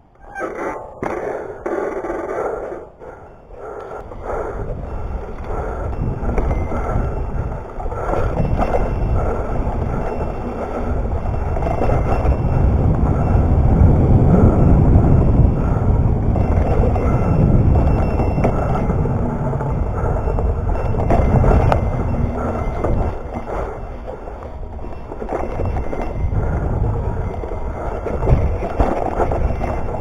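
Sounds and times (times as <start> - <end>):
bike tyre noise: 0.0 - 30.0
wind on microphone: 0.0 - 30.0.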